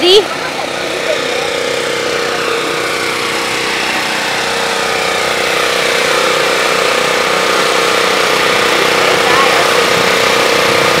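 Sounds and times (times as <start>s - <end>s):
stroller wheels rolling on asphalt: 2.2s - 11.0s.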